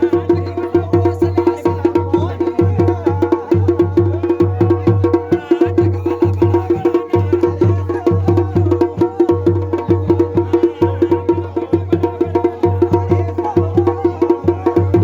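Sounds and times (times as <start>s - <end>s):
drums playing fast rhythm: 0.0s - 15.0s.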